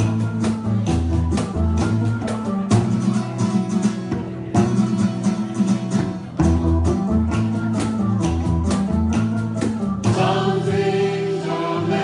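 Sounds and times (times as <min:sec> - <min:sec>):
live rock band playing: 0:00.0 - 0:10.8.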